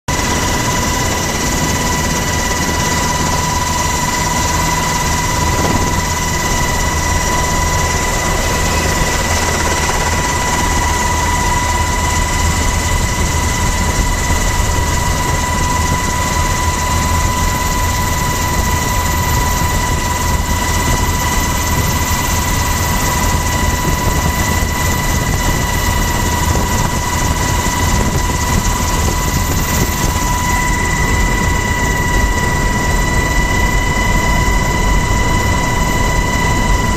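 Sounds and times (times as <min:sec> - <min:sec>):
helicopter engine and rotor: 0:00.1 - 0:36.9.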